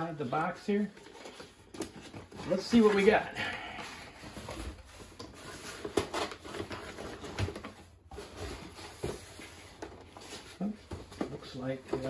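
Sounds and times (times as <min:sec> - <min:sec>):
cardboard flaps scraping and rustling: 0:00.0 - 0:12.0.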